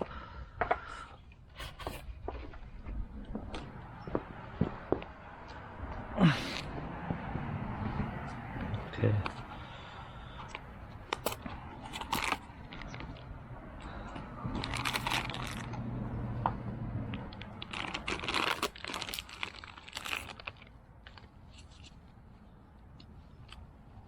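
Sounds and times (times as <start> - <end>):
crinkling and rustling: 0.0 - 24.0.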